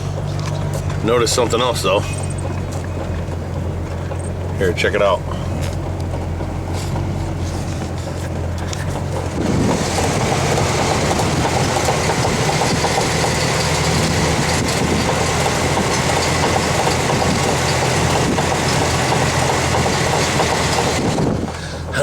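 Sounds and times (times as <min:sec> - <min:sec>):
vehicle engine rumbling while driving: 0:00.0 - 0:22.0.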